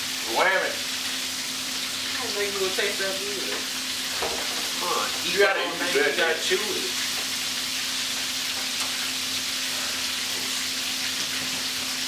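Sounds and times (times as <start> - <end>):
frying sizzle: 0.0 - 12.0.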